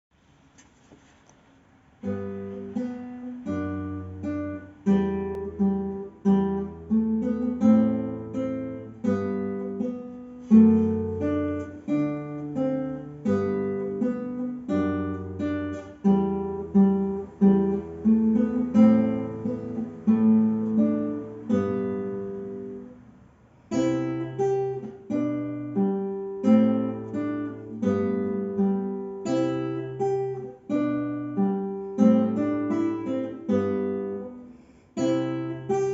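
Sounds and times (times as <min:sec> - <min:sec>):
solo classical guitar: 0:01.9 - 0:35.9.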